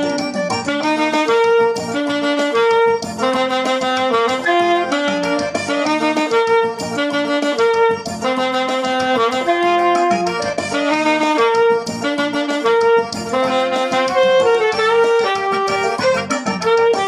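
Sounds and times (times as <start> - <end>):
alto saxophone melody: 0.0 - 17.0
rhythmic accompaniment: 0.0 - 17.0.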